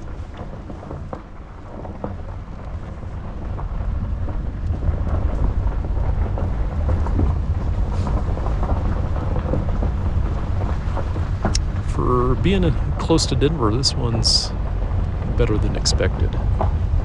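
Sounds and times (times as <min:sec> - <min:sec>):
small crackles: 0:00.0 - 0:17.0
vehicle engine and tyres rumbling: 0:00.0 - 0:17.0.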